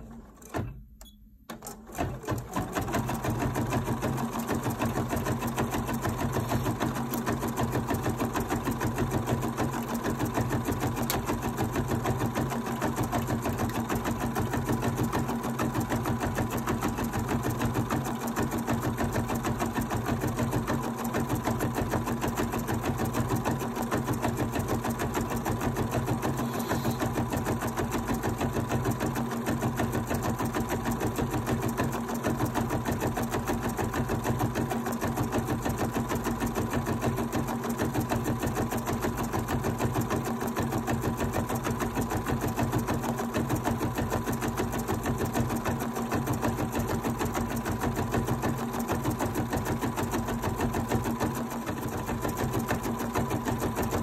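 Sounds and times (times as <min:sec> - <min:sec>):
sewing machine stitching: 0:00.0 - 0:54.0.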